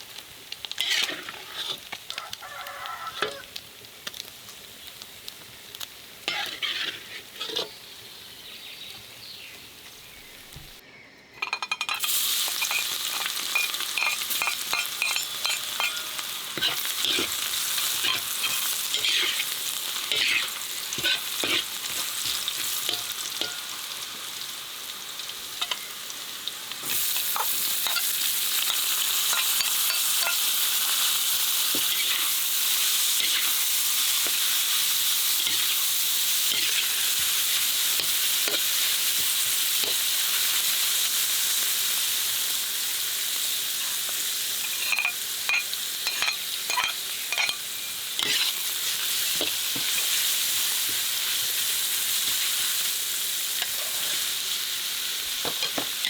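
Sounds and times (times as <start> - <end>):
food sizzling in pan: 0.0 - 10.8, 11.4 - 56.0.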